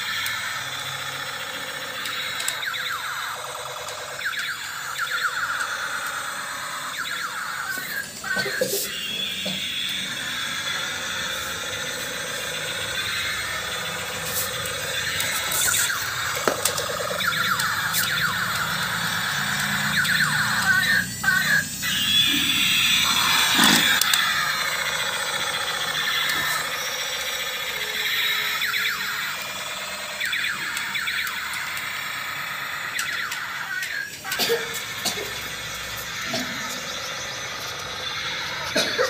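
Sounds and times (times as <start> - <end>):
toy siren-like tones: 0.0 - 39.0.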